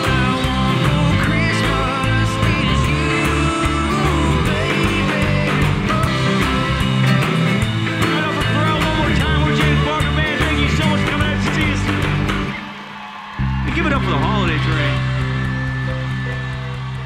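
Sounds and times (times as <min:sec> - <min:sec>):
rock music with guitar: 0:00.0 - 0:17.0.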